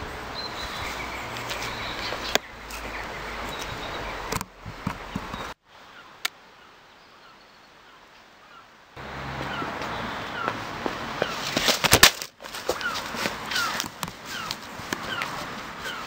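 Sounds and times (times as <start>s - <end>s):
birds chirping faintly: 0.0s - 11.7s, 12.5s - 16.0s.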